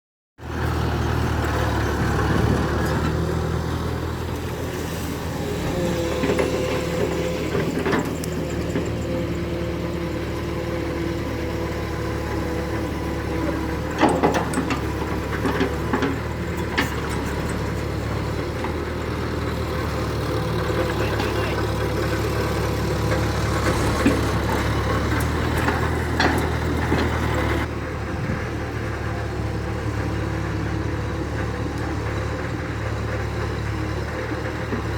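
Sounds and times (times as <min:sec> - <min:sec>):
low engine-like drone: 0:03.7 - 0:33.5.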